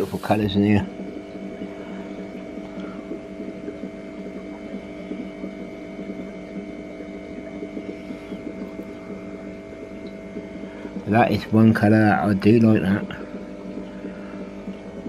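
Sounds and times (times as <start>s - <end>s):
aquarium pump humming: 0.0s - 15.0s
water bubbling: 0.0s - 15.0s.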